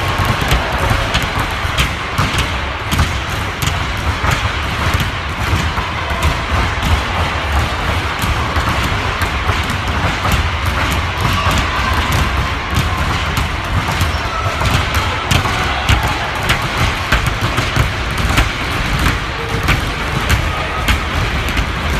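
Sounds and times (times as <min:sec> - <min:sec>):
basketballs bouncing on wooden floor: 0:00.0 - 0:21.9.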